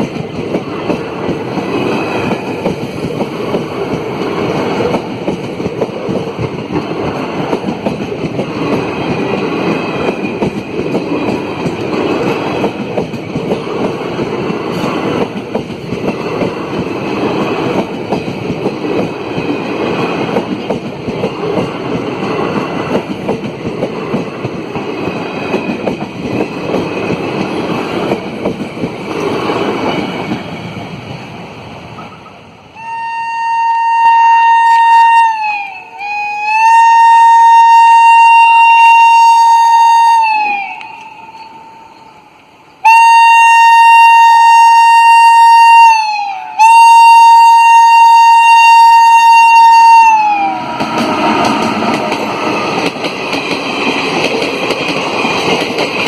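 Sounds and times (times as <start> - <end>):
train wheels rumbling on rails: 0.0 - 33.0, 34.2 - 56.0.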